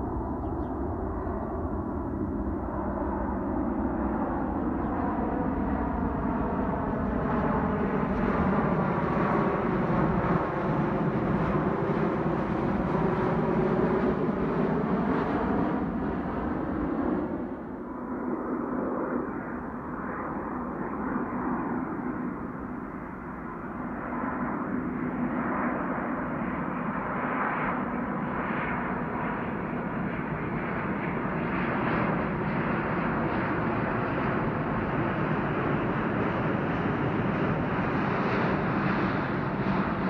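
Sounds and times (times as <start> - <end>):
jet engines on approach: 0.0 - 40.0.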